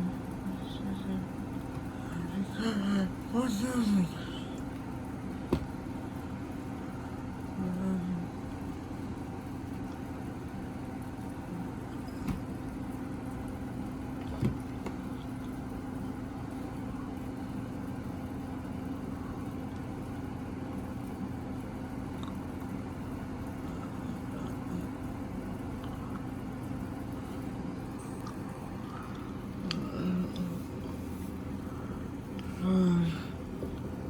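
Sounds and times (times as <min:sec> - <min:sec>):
air conditioner humming: 0:00.0 - 0:34.0.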